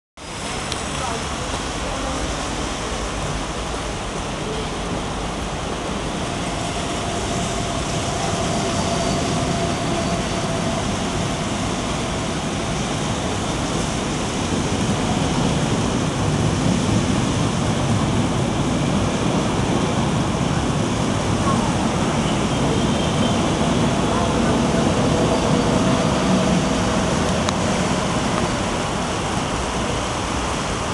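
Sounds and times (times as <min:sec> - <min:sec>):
train wheels rumbling on track: 0:00.2 - 0:30.9.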